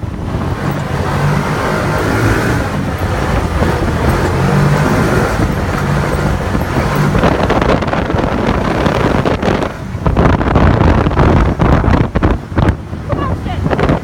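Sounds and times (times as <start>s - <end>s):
off-road vehicle engine running: 0.0s - 14.0s
wind noise on microphone: 0.0s - 14.0s.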